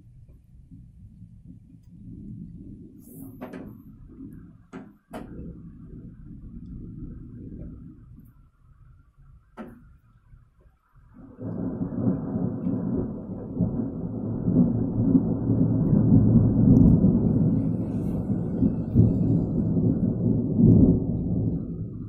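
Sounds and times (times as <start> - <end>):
thunder rumbling: 0.0 - 22.0.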